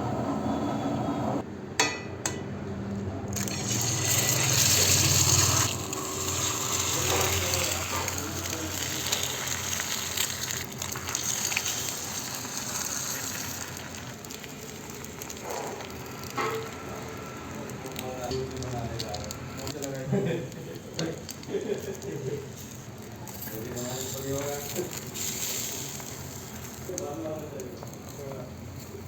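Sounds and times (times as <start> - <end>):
egg sizzling in hot oil: 3.3 - 29.0.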